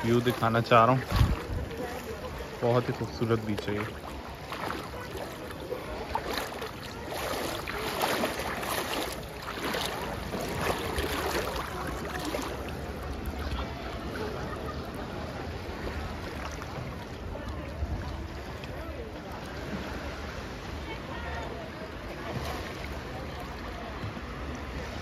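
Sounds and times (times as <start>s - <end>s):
seawater washing and splashing: 0.0s - 25.0s.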